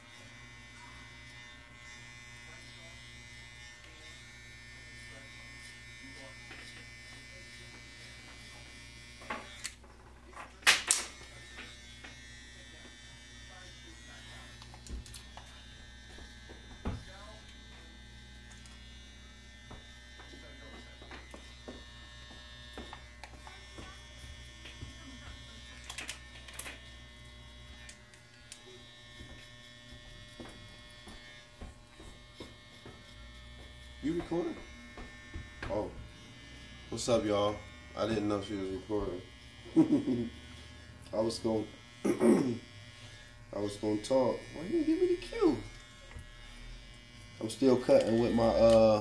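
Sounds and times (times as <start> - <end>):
hair clipper buzzing: 0.0 - 49.0.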